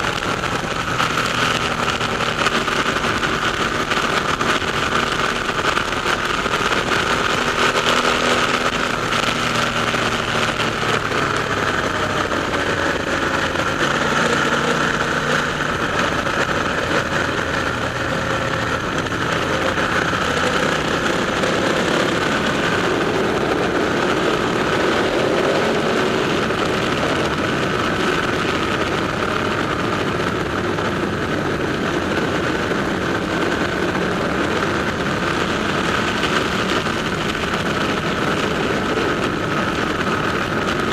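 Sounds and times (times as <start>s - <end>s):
motorcycle engines running: 0.0s - 40.9s.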